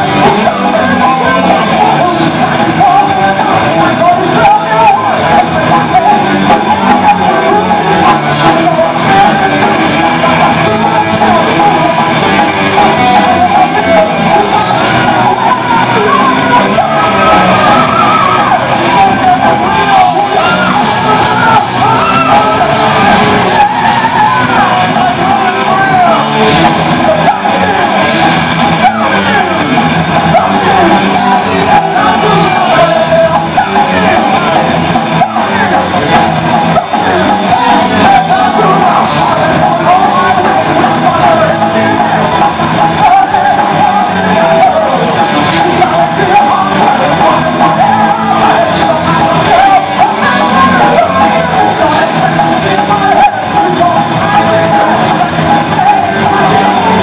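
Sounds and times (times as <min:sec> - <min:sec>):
bass guitar: 0:00.0 - 0:57.0
distorted electric guitars: 0:00.0 - 0:57.0
drums: 0:00.0 - 0:57.0
person singing: 0:00.0 - 0:57.0.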